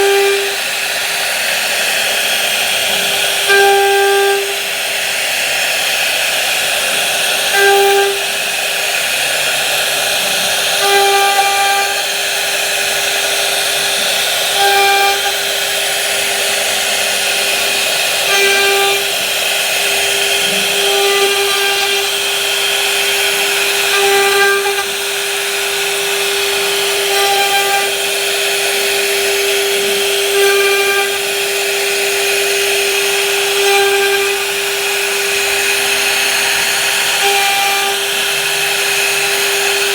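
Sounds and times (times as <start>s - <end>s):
power tool motor humming: 0.0s - 39.9s.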